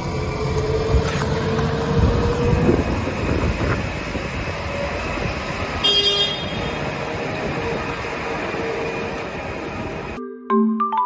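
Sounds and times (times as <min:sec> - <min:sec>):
diesel engine running: 0:00.0 - 0:10.2.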